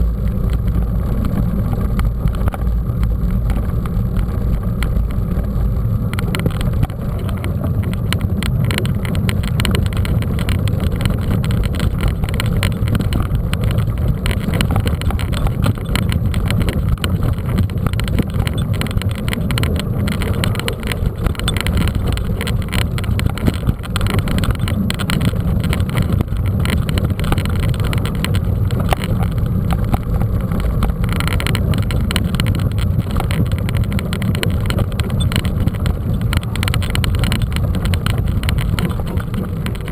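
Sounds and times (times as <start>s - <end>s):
bike rattles and knocks: 0.0s - 39.9s
wind and rolling rumble on microphone: 0.0s - 39.9s.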